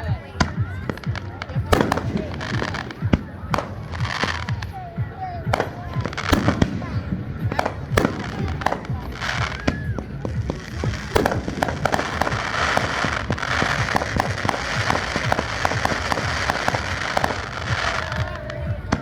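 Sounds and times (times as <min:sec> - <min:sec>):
fireworks bangs and pops: 0:00.0 - 0:19.0
fireworks crackling: 0:00.0 - 0:19.0.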